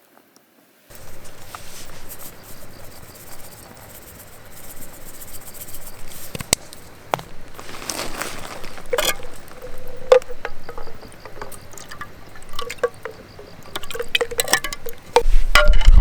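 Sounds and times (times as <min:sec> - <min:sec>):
outdoor hiss: 0:00.0 - 0:13.7
crackling rustle: 0:00.0 - 0:16.0
insects chirping: 0:00.9 - 0:15.9.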